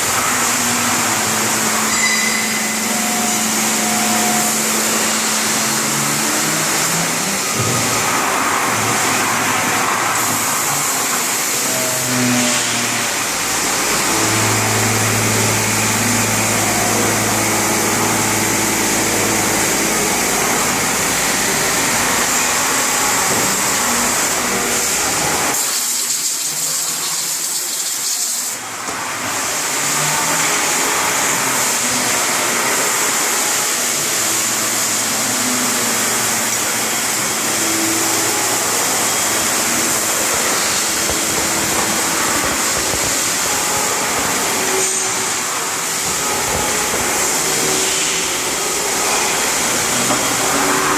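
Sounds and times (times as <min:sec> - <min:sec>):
low machine hum: 0:00.0 - 0:25.6, 0:34.0 - 0:50.9
machine hiss: 0:00.0 - 0:50.9.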